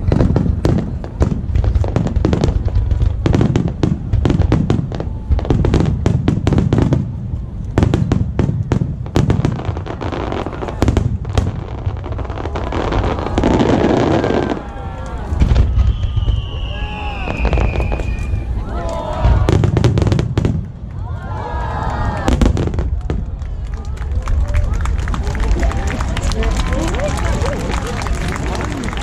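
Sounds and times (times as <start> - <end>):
fireworks bangs and booms: 0.0 - 21.1, 22.1 - 29.0
crackle of bursting fireworks: 0.0 - 29.0.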